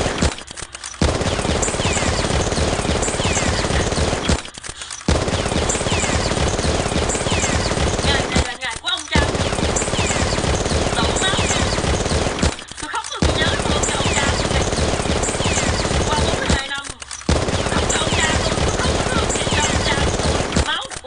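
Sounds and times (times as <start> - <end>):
automatic gunfire: 0.0 - 21.0.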